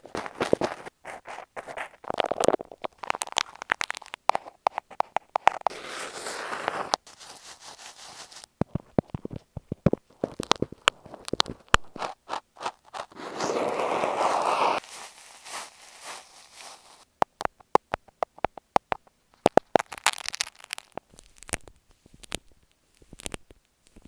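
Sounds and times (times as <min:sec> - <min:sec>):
crackling against earphone microphones: 0:00.0 - 0:24.0.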